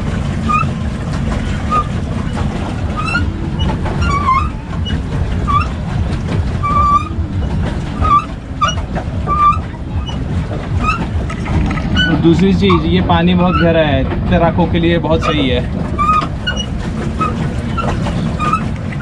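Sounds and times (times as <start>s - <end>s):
short squeaks: 0.0s - 13.9s, 15.2s - 19.0s
pedal boat low rumble: 0.0s - 19.0s.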